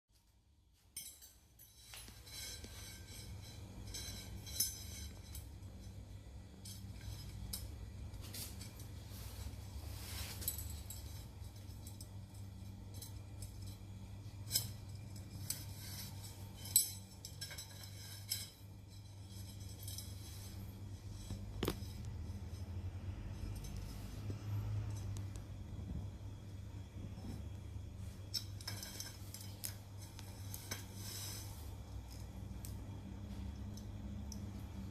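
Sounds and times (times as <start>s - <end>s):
light metallic clinks: 0.8s - 25.6s, 27.2s - 34.9s.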